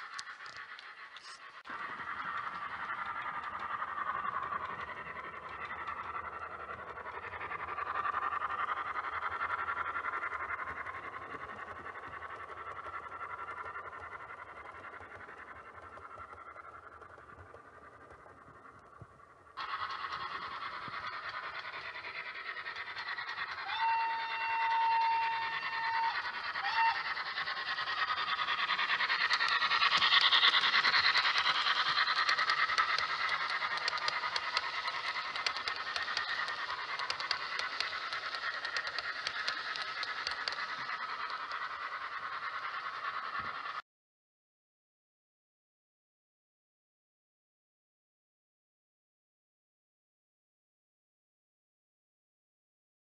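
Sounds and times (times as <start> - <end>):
light clicks of train running: 0.0 - 43.8
model train steam chuffs: 0.0 - 43.8.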